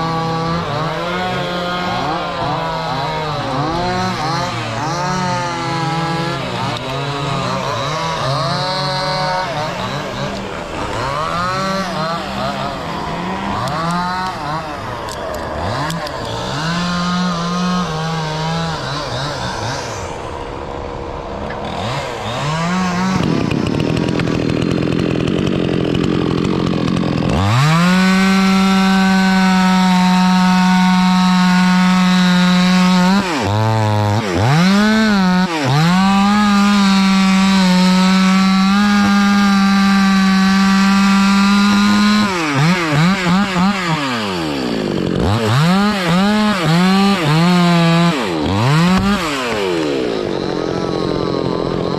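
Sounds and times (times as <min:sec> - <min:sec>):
chainsaw engine revving: 0:00.0 - 0:51.9.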